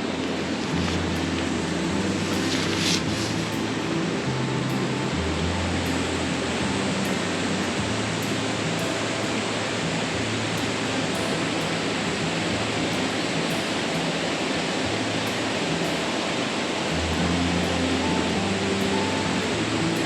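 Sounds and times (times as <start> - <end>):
low background music: 0.0 - 20.0
steady rushing noise: 0.0 - 20.0.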